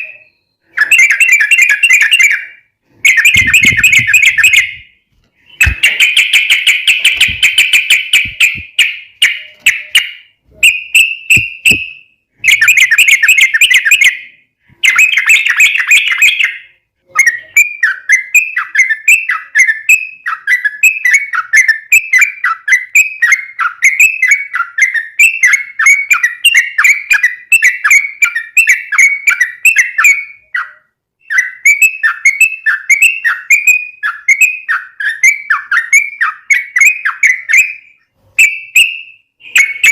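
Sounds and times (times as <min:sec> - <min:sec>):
bird singing loudly: 0:00.0 - 0:39.9.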